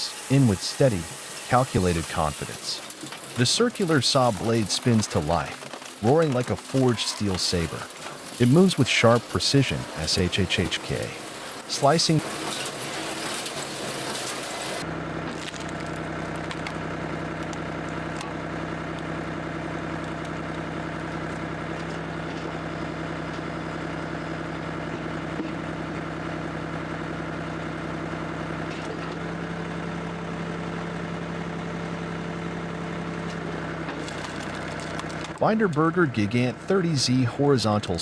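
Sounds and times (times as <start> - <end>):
firewood processor engine humming: 0.0 - 38.0.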